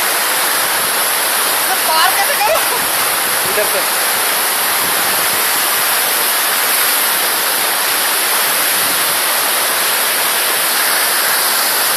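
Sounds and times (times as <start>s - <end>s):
stream rushing over stones: 0.0s - 11.9s.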